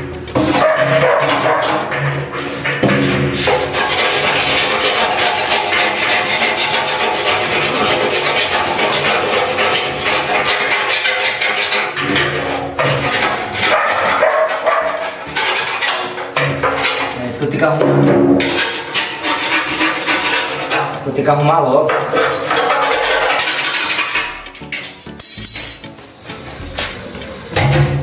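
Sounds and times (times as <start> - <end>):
background music: 0.0 - 28.0.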